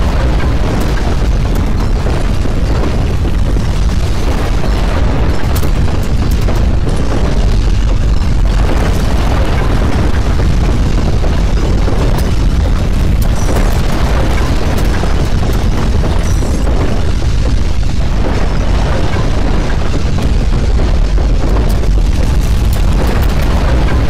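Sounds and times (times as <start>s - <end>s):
deep crackling earthquake rumble: 0.0s - 24.0s.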